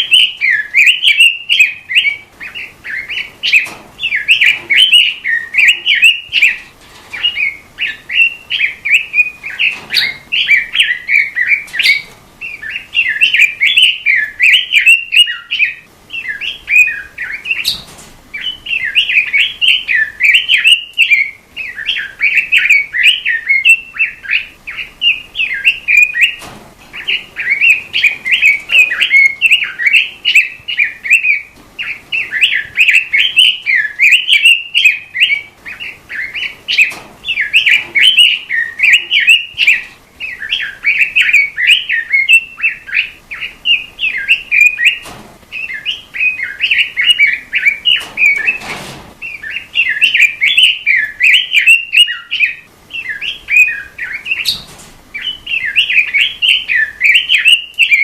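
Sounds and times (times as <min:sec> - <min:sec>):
songbird warbling: 0:00.0 - 0:48.6, 0:49.2 - 0:58.0.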